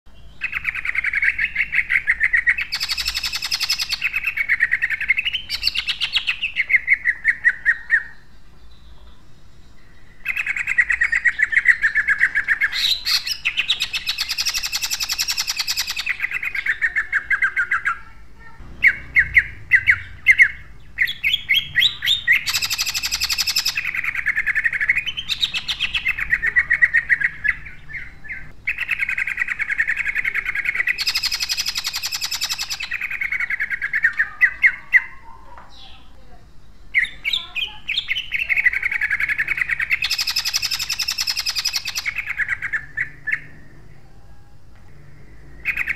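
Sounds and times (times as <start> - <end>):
songbird singing rapid phrases: 0.1 - 45.9.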